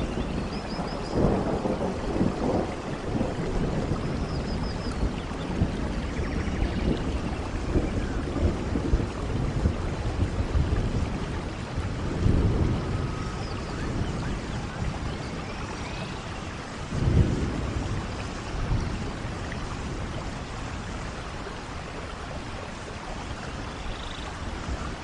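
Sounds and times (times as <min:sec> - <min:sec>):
thunder rumbling: 0:00.0 - 0:23.7
steady rain falling: 0:00.0 - 0:25.0.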